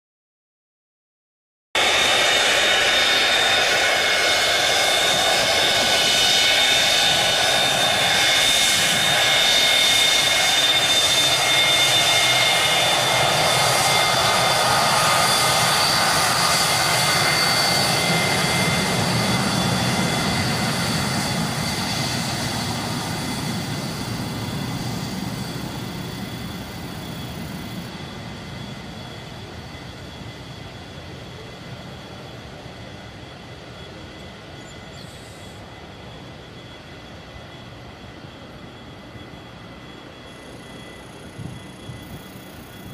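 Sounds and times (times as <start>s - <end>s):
jet engines whining and rumbling: 1.8s - 42.9s.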